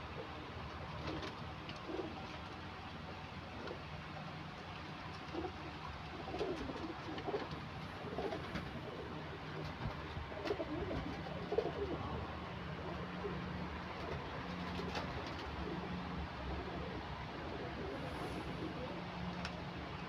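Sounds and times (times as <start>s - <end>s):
pigeons cooing: 0.0s - 2.6s, 3.2s - 3.9s, 5.0s - 20.0s
steady low hum: 0.0s - 20.0s.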